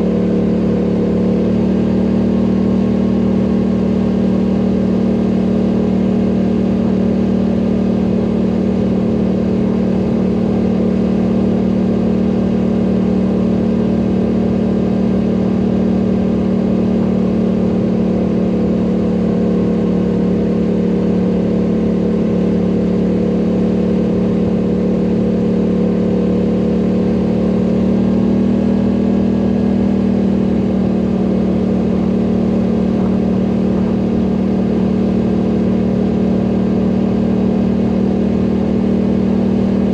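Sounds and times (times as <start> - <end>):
quad bike engine under load: 0.0 - 39.9.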